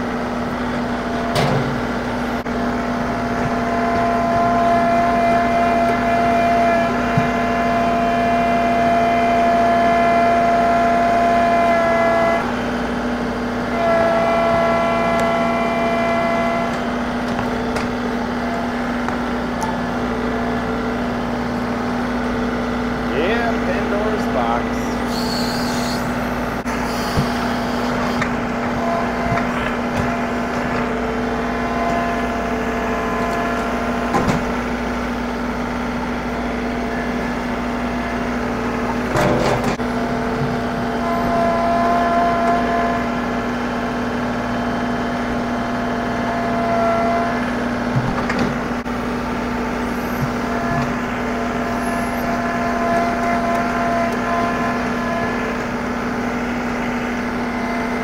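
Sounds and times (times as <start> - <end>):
hydraulic whine: 0.0 - 58.0
tractor diesel engine running: 0.0 - 58.0.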